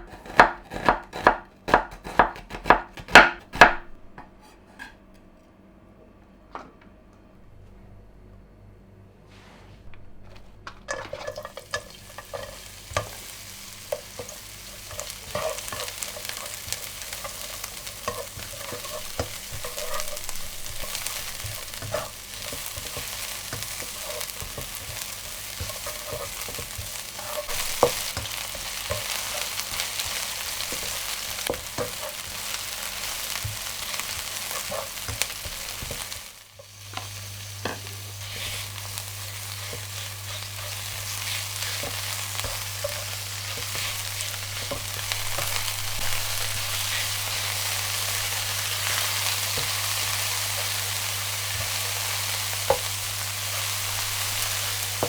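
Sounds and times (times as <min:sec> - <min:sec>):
spatula scraping pan: 0:04.2 - 0:05.0, 0:10.9 - 0:55.0
food sizzling in oil: 0:10.9 - 0:55.0.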